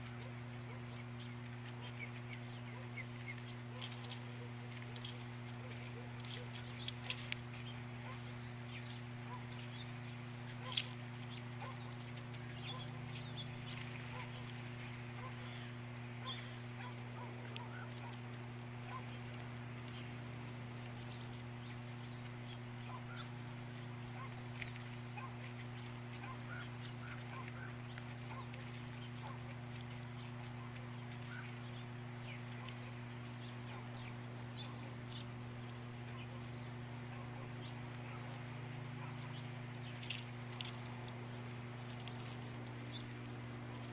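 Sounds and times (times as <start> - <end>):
electrical hum: 0.0 - 43.9
small birds chirping: 0.0 - 43.9.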